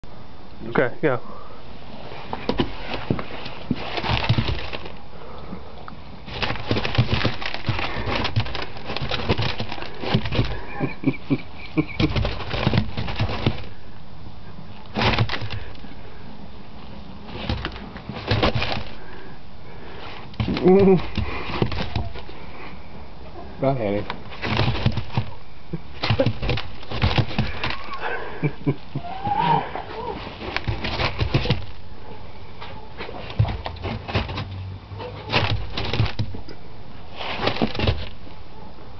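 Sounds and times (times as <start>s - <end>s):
rattling patter of shifting corn: 2.0s - 5.4s, 6.2s - 13.9s, 14.9s - 16.2s, 16.8s - 22.8s, 23.6s - 38.4s.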